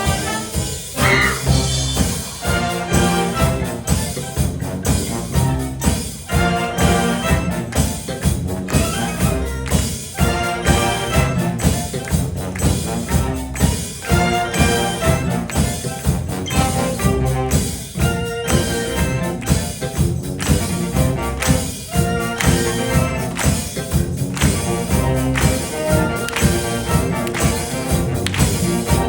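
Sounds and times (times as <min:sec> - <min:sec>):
wind band playing pop-funk: 0:00.0 - 0:29.0.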